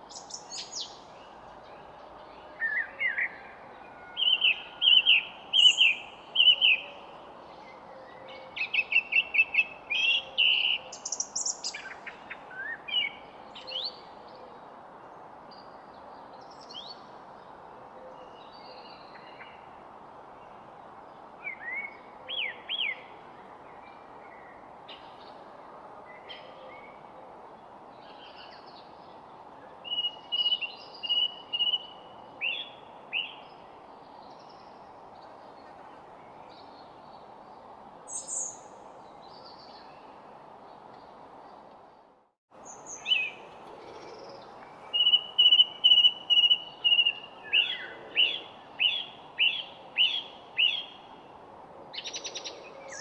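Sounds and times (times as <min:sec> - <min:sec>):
songbirds singing: 0:00.0 - 0:19.8, 0:26.1 - 0:53.0
steady background hiss: 0:00.0 - 0:53.0.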